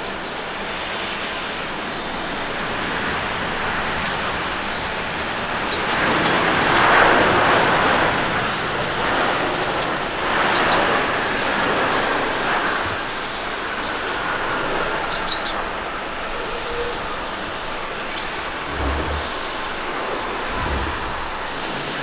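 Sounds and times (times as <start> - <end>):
jet engines rushing on landing: 0.0 - 22.0.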